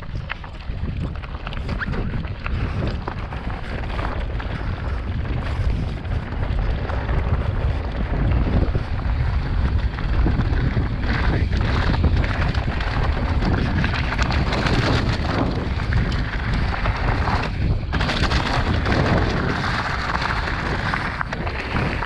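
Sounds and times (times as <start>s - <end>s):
bike tyres crunching on gravel: 0.0s - 22.0s
wind buffeting on microphone: 0.0s - 22.0s.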